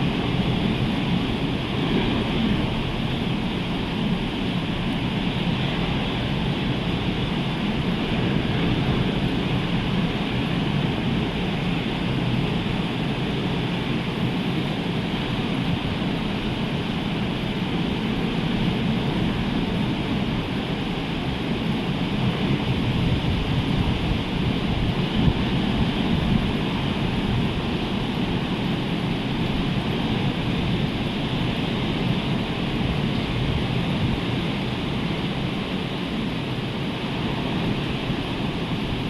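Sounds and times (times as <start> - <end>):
rough sea surf washing: 0.0 - 39.0
wind buffeting microphone: 0.0 - 39.0.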